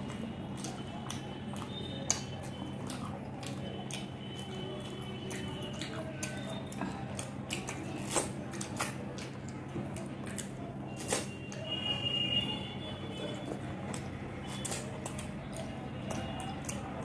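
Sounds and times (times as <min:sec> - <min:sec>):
wet chewing and finger licking: 0:00.0 - 0:11.7, 0:13.2 - 0:17.0.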